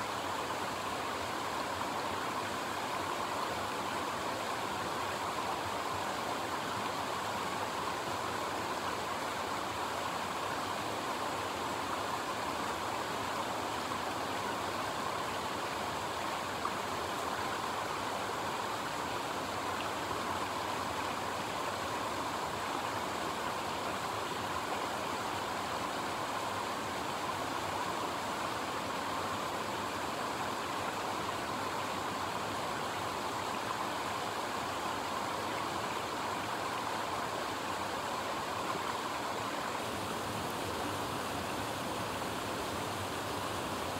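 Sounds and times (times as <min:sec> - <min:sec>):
stream rushing: 0:00.0 - 0:43.9.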